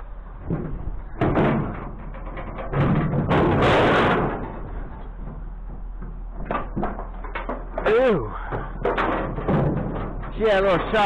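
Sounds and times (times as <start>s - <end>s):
scrap rattling clatter: 0.4s - 11.0s.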